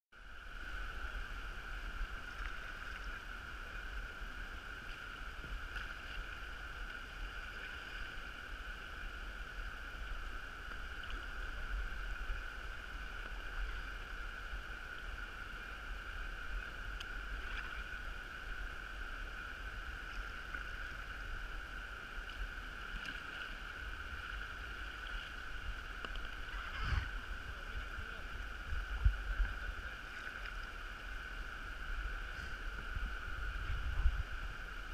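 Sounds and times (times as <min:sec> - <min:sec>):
water rushing over weir: 0:00.2 - 0:34.9
wind rumble on microphone: 0:00.2 - 0:34.9.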